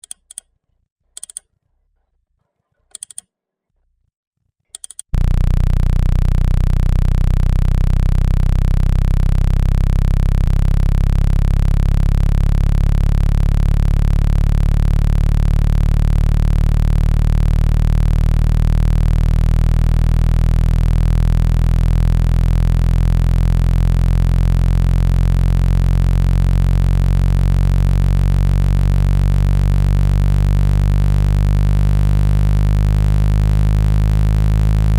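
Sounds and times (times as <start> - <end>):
low-pitched electronic buzz: 5.1 - 34.9
short electronic blips: 5.2 - 34.9.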